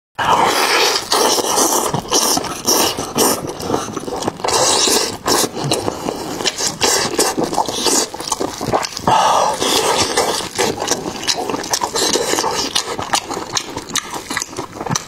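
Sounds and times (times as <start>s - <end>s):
wet crunchy chewing: 0.2s - 15.0s.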